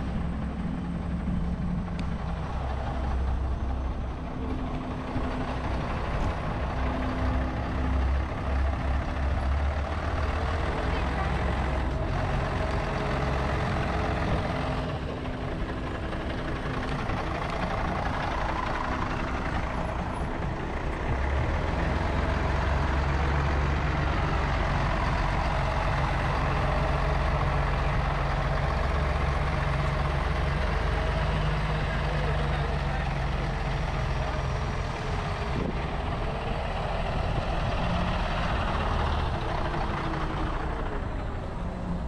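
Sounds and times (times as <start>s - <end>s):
large engine humming: 0.0s - 42.0s.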